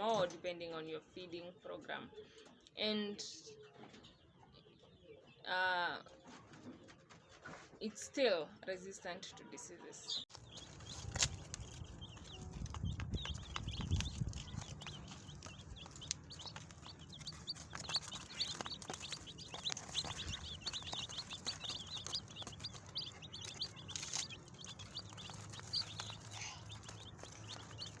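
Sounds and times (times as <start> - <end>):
chicks peeping: 1.7 - 7.7, 9.4 - 28.0.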